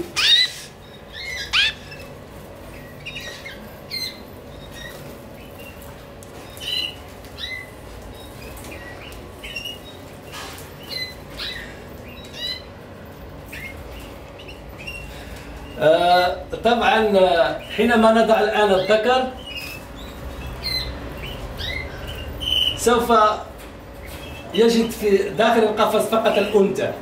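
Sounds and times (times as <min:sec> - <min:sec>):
canaries chirping: 0:00.0 - 0:27.0.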